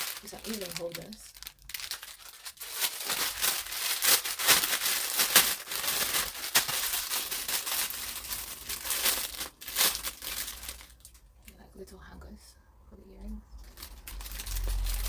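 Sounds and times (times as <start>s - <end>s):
plastic packaging crinkling: 0.0s - 11.2s, 13.6s - 15.0s.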